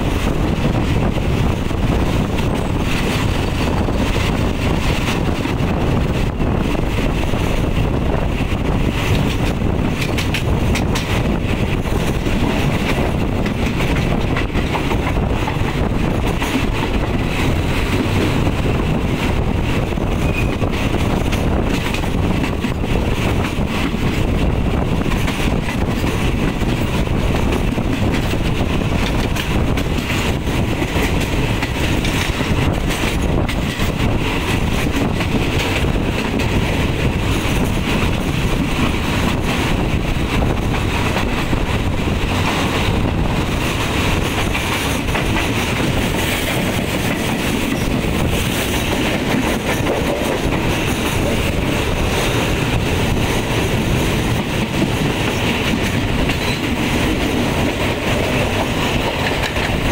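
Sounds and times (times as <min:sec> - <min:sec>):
moving train running noise: 0:00.0 - 0:59.9
wind buffeting microphone: 0:00.0 - 0:59.9.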